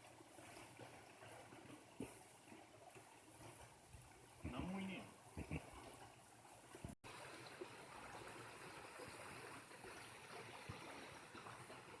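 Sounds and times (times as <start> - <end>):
mountain stream flowing: 0.0 - 12.0.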